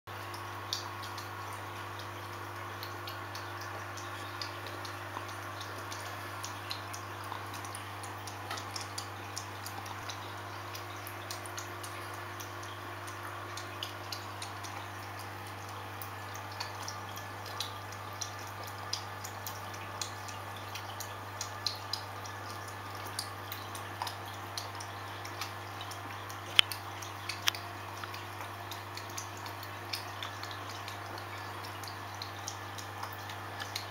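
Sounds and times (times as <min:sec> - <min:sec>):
aquarium low hum: 0:00.1 - 0:33.9
water drips and clicks: 0:00.1 - 0:33.9.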